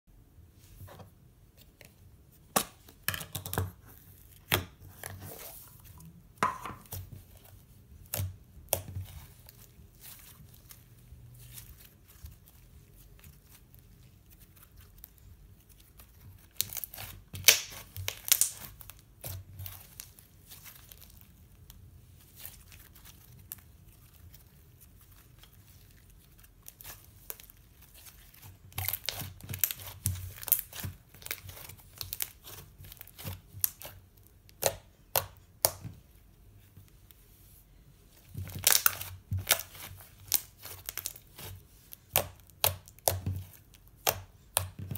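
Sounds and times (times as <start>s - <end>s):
hands squishing slime: 1.6s - 44.9s.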